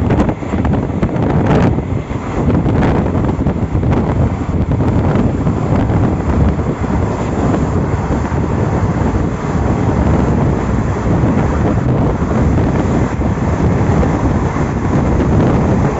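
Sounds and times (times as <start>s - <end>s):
train wheels rumbling on rails: 0.0s - 15.9s
wind buffeting microphone: 0.0s - 15.9s.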